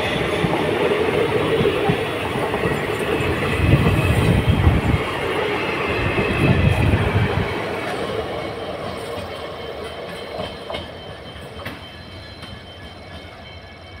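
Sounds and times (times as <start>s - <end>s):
train coaches rolling over rails: 0.0s - 14.0s.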